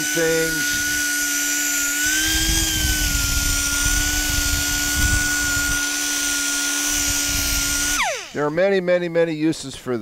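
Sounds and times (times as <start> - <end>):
air sander whine: 0.0 - 8.8
sanding pad rumbling on metal: 0.0 - 8.8.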